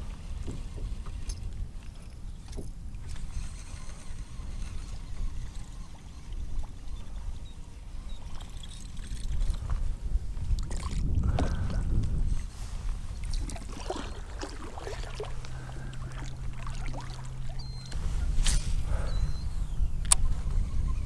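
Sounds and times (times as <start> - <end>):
water sloshing around kayak: 0.0 - 19.4.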